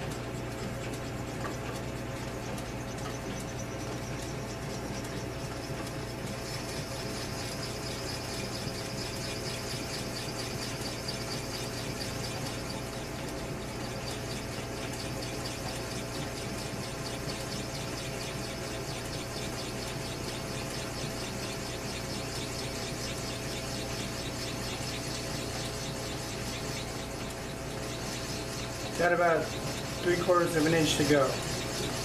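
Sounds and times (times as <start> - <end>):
lathe humming: 0.0 - 32.0
drill bit high pulsing whine: 2.2 - 32.0.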